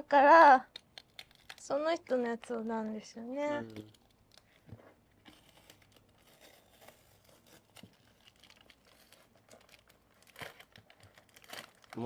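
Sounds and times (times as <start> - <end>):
packaging crinkling and rustling: 0.8 - 12.0.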